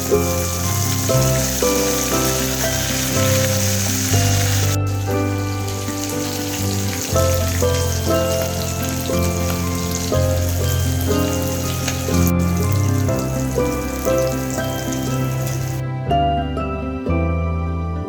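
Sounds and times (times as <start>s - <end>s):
chicken sizzling in hot oil: 0.0s - 15.8s
background music with bass line: 0.0s - 18.0s.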